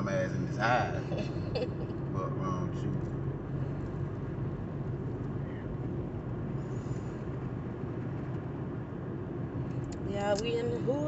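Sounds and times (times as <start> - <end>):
car engine and road hum: 0.0 - 11.0.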